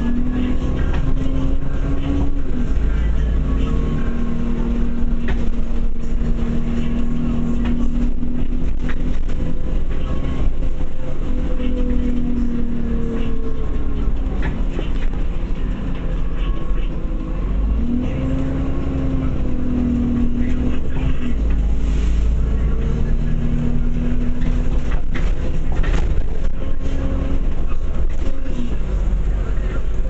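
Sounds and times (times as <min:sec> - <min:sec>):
bus engine rumble: 0:00.0 - 0:30.0
drivetrain whine: 0:00.0 - 0:30.0.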